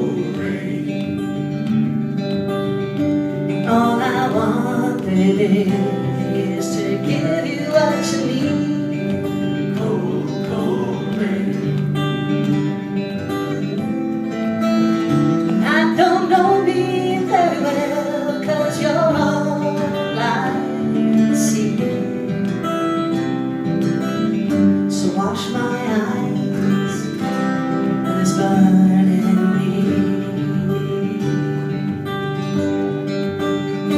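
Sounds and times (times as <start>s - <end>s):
acoustic guitar strumming chords: 0.0s - 33.9s.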